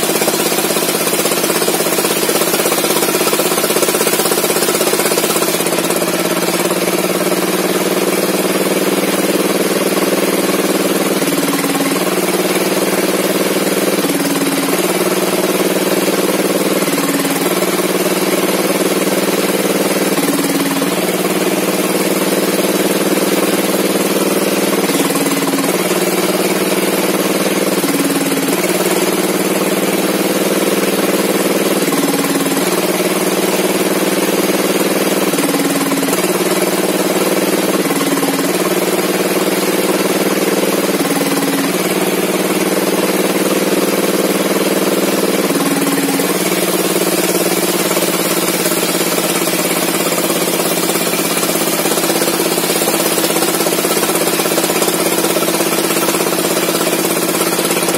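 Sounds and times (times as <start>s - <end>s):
small engine running: 0.0s - 57.9s.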